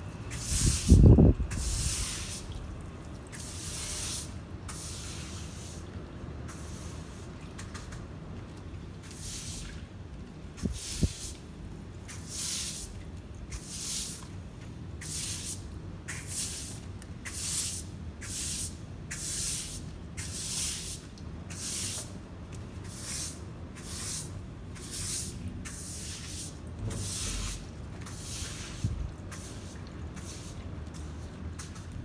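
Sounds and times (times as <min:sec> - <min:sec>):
broom sweeping grit on concrete: 0:00.3 - 0:02.6, 0:03.3 - 0:05.9, 0:06.5 - 0:07.3, 0:09.1 - 0:09.8, 0:10.6 - 0:11.5, 0:12.1 - 0:14.2, 0:15.0 - 0:22.2, 0:22.8 - 0:31.9.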